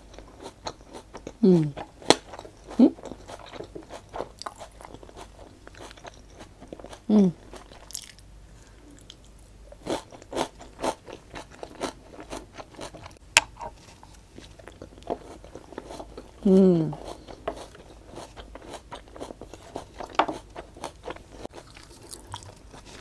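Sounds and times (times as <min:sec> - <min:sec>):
chewing crunchy food: 0:00.0 - 0:23.0.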